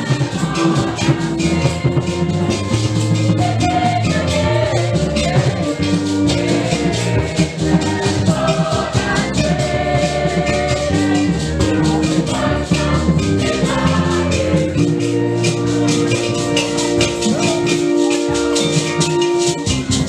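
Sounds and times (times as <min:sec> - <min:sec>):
music with shaken rattle beat: 0:00.0 - 0:20.0.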